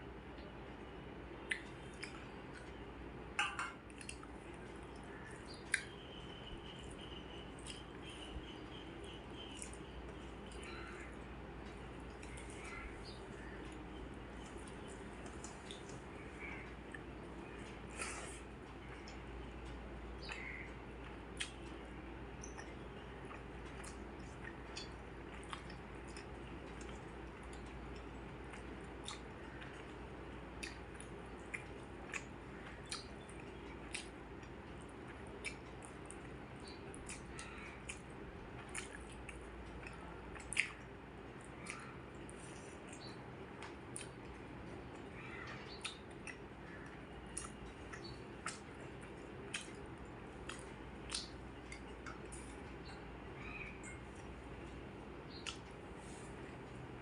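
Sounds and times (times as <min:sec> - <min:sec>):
low steady hum: 0:00.0 - 0:57.0
chewing and wet mouth sounds: 0:00.2 - 0:57.0.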